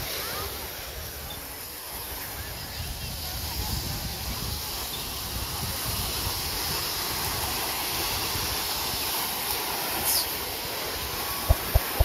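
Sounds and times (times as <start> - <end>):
wind buffeting microphone: 0.0 - 9.3, 10.6 - 12.0
small waves breaking on sand: 0.0 - 12.0.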